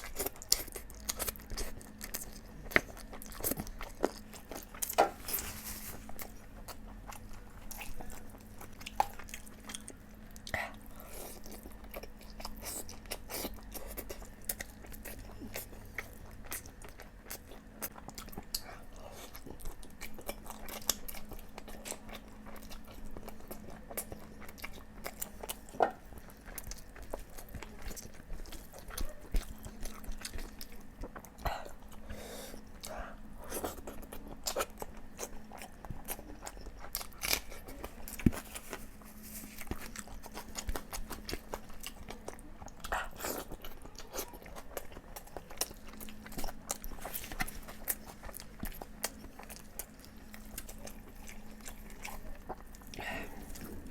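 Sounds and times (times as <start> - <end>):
faint steady hum: 0.0 - 53.9
person chewing food: 0.0 - 53.9.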